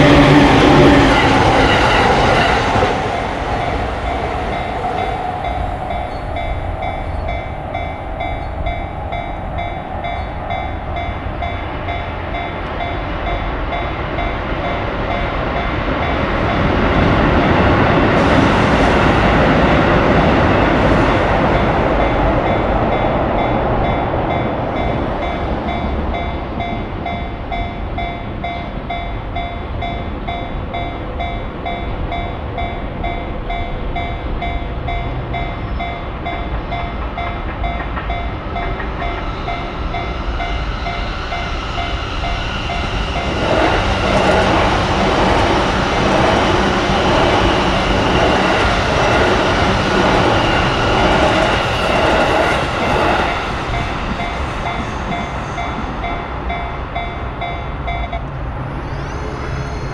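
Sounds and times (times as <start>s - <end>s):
level-crossing warning bell ringing: 0.0s - 58.4s
electric trains rumbling past: 0.0s - 59.9s.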